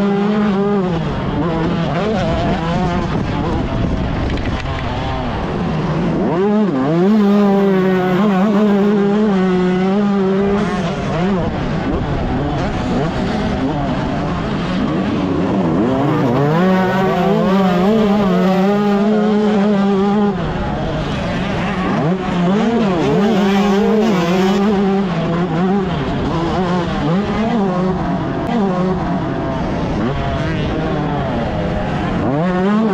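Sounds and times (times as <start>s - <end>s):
two-stroke motorbike engine revving: 0.0s - 32.9s.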